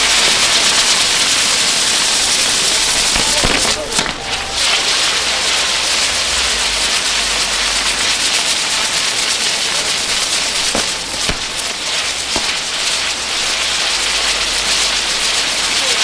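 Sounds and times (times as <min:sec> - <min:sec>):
fireworks hissing and crackling: 0:00.0 - 0:16.0
sharp firework cracks: 0:00.0 - 0:16.0.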